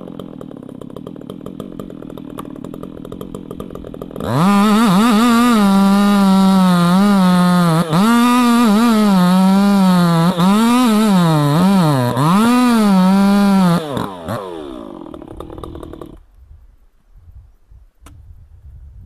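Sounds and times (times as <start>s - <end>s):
chainsaw running at high revs: 0.0s - 16.2s.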